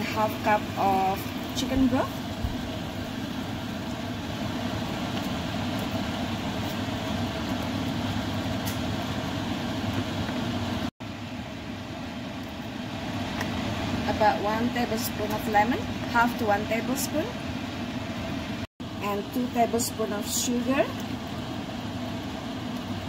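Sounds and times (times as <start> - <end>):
sauce sizzling in a frying pan: 0.0 - 23.0.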